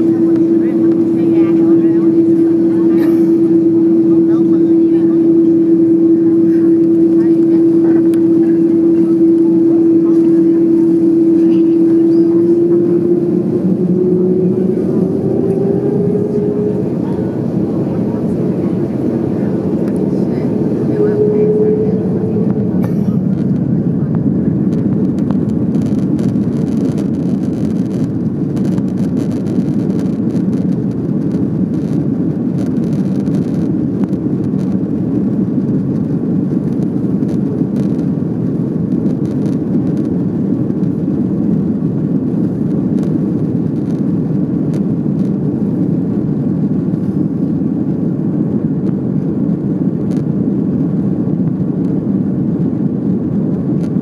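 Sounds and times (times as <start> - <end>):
jet engines and wheels rumbling: 0.0 - 54.0.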